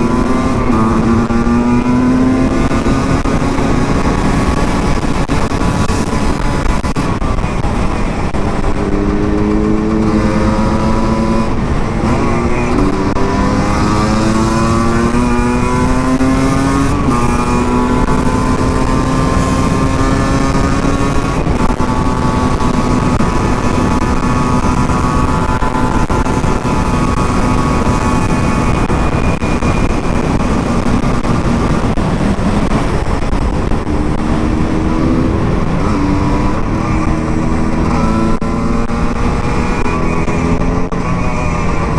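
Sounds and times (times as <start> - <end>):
motorcycle engine shifting gears: 0.0 - 41.9
wind noise: 0.0 - 41.9.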